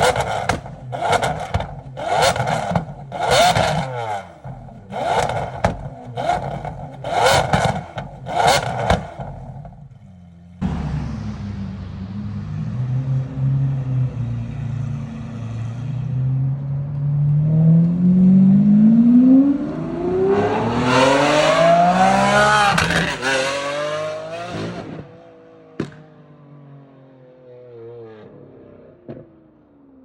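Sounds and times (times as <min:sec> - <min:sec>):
sports car engine accelerating: 0:00.0 - 0:30.0.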